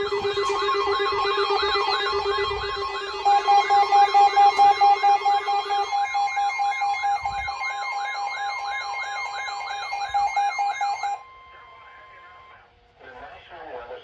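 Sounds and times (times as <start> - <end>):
lower pulsing tone: 0.0 - 11.2
warbling alert tone: 0.0 - 11.2
rapidly pulsing beep: 0.0 - 12.5
steady high tone: 0.0 - 12.5.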